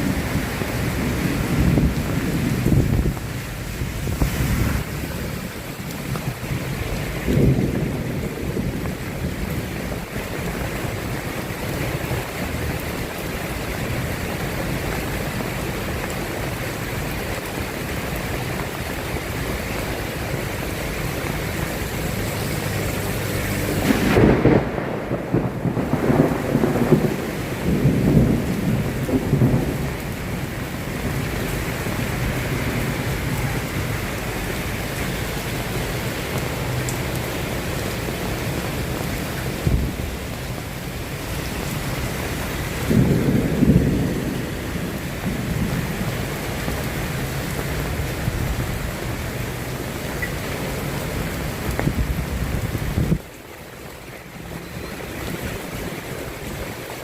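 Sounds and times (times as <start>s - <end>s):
rolling thunder rumble: 0.0s - 36.6s, 37.2s - 53.4s
steady rain falling: 0.0s - 57.0s.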